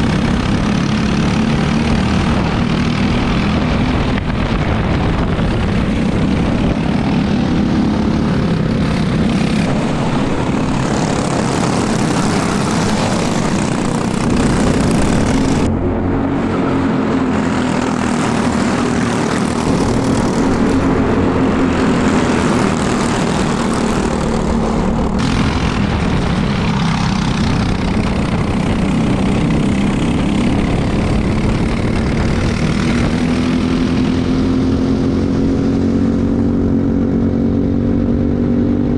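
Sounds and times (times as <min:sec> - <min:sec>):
kart engines racing: 0:00.0 - 0:38.9
wind rush: 0:00.0 - 0:38.9.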